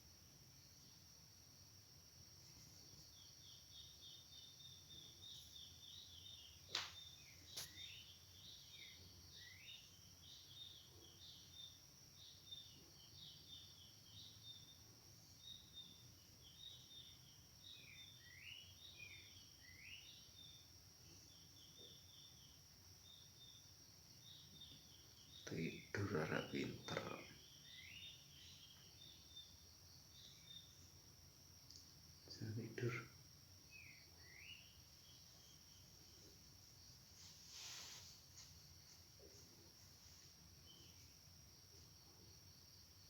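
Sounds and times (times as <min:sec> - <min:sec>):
faint high chirps: 0:02.9 - 0:42.3.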